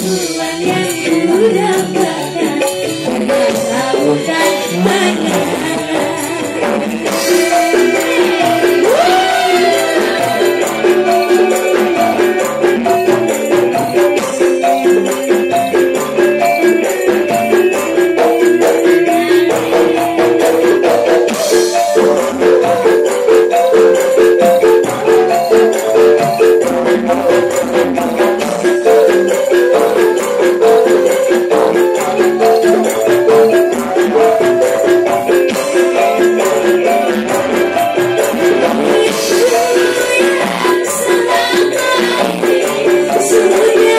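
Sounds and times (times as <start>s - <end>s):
metallophones ringing melody: 0.0s - 43.9s
shaker-like percussion: 0.0s - 43.9s.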